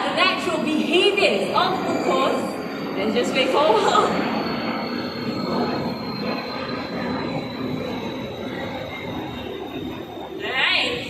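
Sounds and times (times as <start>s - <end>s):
faint high-pitched whine: 0.0s - 11.0s
steady background noise: 0.0s - 11.0s.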